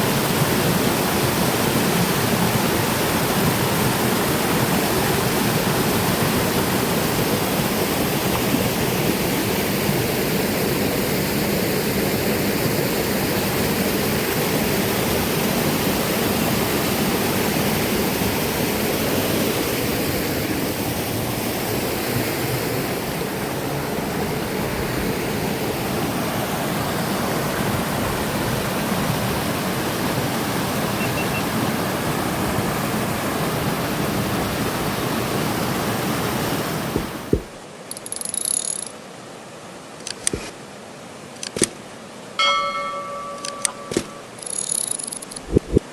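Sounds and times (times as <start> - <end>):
river rushing over waterfalls: 0.0 - 37.9.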